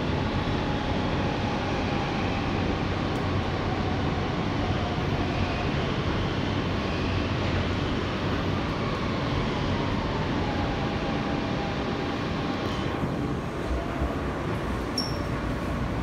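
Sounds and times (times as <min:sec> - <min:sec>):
subway car running noise: 0:00.0 - 0:16.0.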